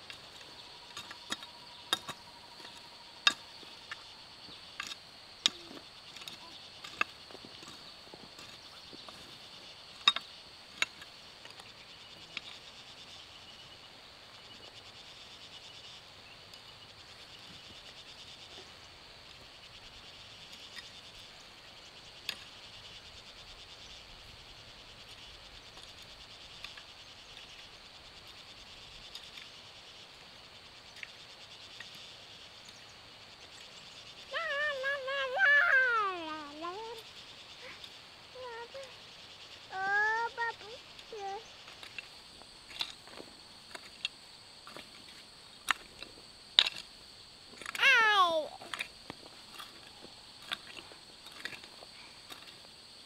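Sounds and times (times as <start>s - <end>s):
high insect chorus: 0.0s - 53.0s.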